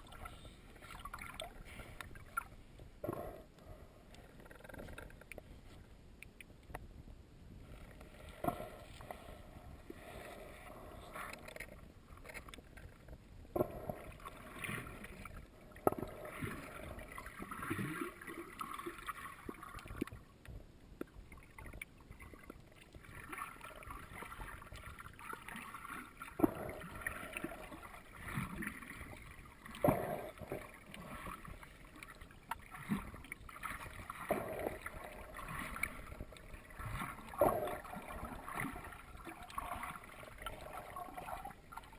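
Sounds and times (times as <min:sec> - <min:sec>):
underwater water movement gurgling: 0:00.0 - 0:05.7, 0:07.6 - 0:41.9.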